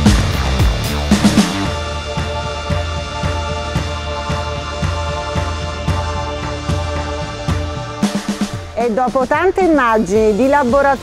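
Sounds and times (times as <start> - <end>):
music with sustained chords: 0.0 - 8.8
steady drum beat: 0.0 - 11.0.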